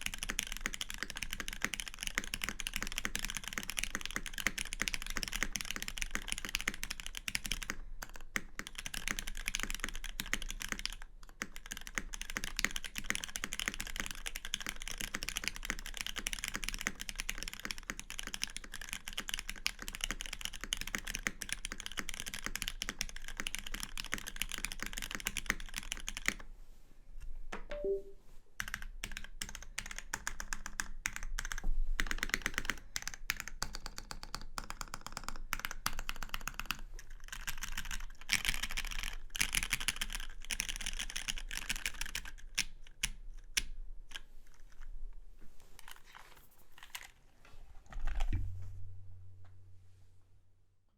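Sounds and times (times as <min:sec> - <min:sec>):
mechanical keyboard typing: 0:00.0 - 0:26.4, 0:28.6 - 0:44.8.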